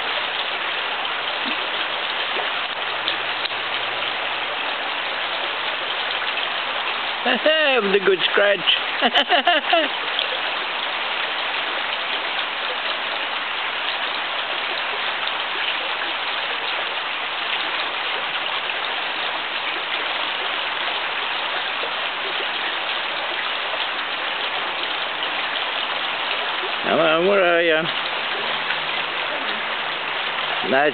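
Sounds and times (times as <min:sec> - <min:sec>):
rain hissing: 0:00.0 - 0:30.9.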